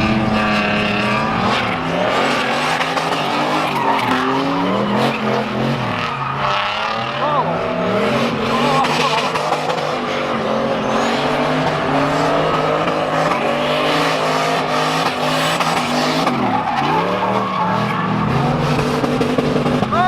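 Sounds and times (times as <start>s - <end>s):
car engine at high revs: 0.0s - 20.0s
tyres squealing and skidding: 0.0s - 20.0s.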